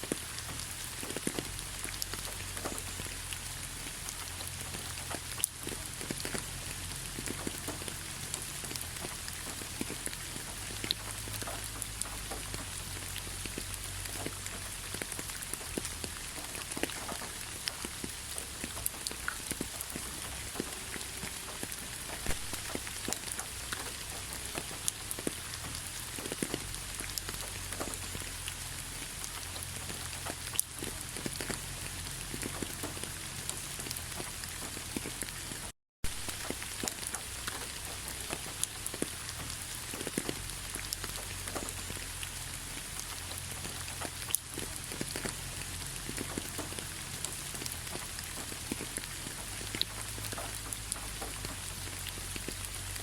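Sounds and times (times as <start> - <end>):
raindrops ticking on surfaces: 0.0 - 53.0
steady rainfall hiss: 0.0 - 53.0.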